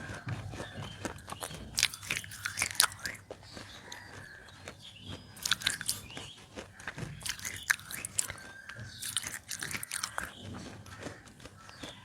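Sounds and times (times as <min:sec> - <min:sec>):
crunching hard clay: 0:00.0 - 0:12.0
soft chewing: 0:00.0 - 0:12.0.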